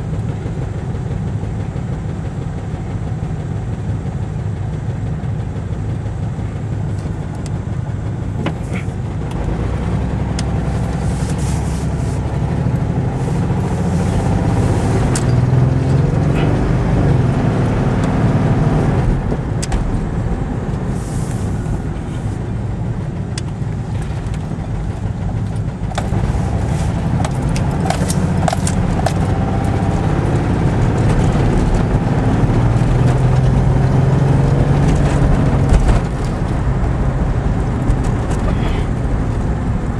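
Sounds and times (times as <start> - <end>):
loud engine through bad muffler: 0.0 - 39.9.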